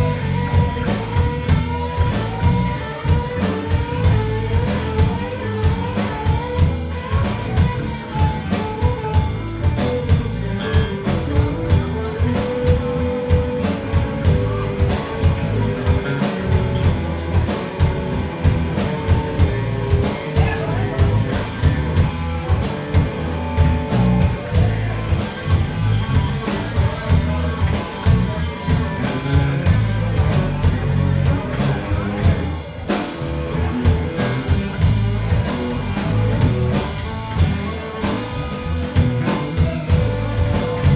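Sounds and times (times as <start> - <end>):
bass guitar: 0.0 - 40.9
drum kit beat on cymbals: 0.0 - 40.9
electric guitar melody: 0.0 - 40.9.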